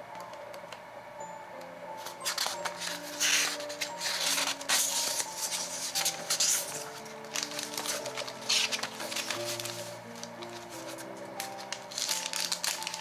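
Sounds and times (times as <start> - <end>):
soft background music: 0.0 - 13.0
book pages rustling: 2.0 - 13.0.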